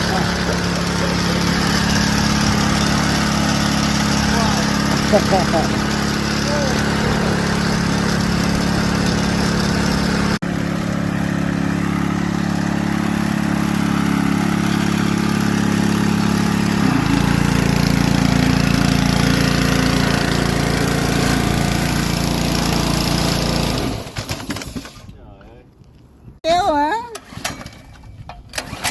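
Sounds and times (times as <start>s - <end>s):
pressure washer engine running: 0.0s - 24.9s.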